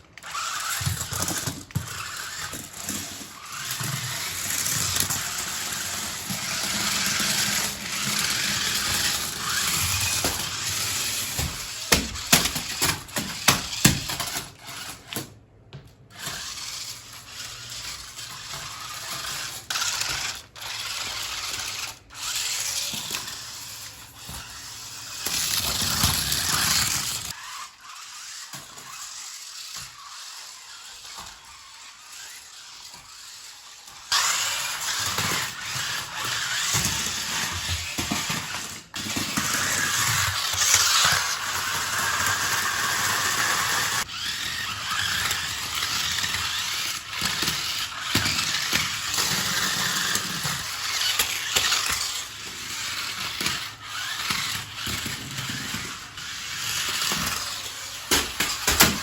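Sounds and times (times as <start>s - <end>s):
toy car motors whirring: 0.0s - 15.4s, 16.0s - 59.0s
wheels scrubbing on floor: 0.2s - 15.2s, 16.1s - 59.0s.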